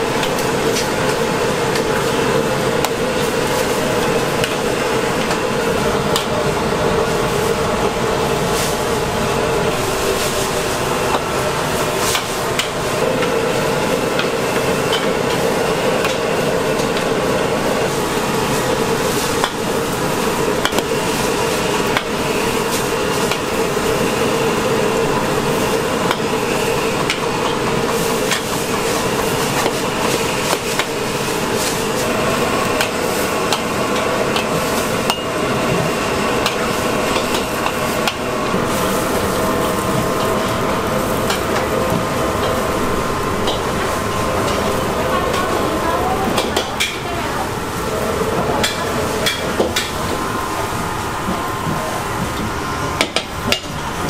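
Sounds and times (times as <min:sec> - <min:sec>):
steady sizzling: 0:00.0 - 0:54.0.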